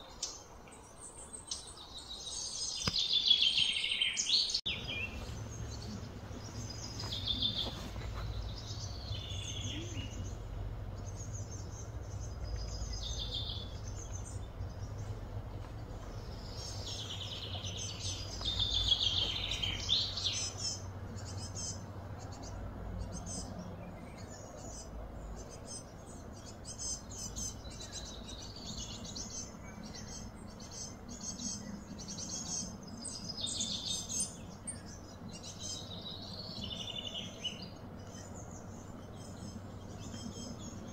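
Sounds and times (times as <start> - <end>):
birds chirping and calling: 0.0 - 40.9
low background rumble: 4.6 - 40.9.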